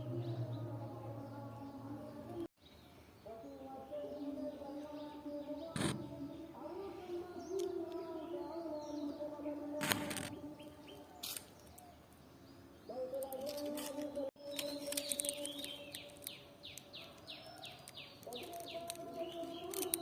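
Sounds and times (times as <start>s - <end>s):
birds calling: 1.3s - 20.0s.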